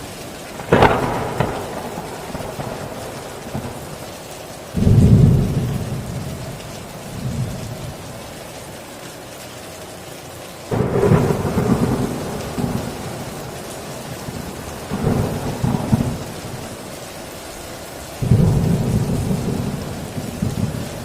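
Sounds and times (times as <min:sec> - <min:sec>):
thunder rumbling: 0:00.0 - 0:08.3, 0:10.7 - 0:21.0
heavy rain: 0:00.0 - 0:21.0.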